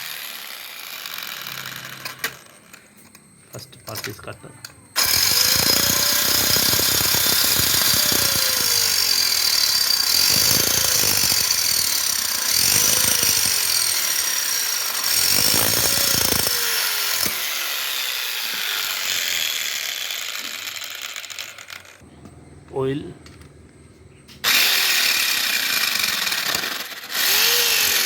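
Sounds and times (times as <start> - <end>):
grinder cutting metal: 0.0 - 2.6, 5.0 - 22.0, 24.4 - 28.0.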